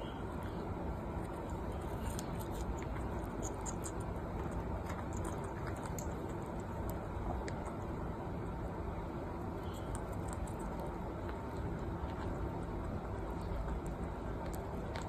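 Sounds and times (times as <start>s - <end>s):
low room noise: 0.0s - 15.0s
parrots nibbling fruit: 0.0s - 15.0s.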